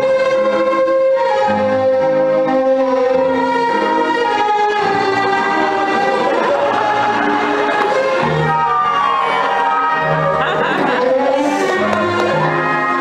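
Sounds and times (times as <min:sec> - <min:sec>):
lower strings changing chords: 0:00.0 - 0:13.0
violin holding long notes: 0:00.0 - 0:13.0.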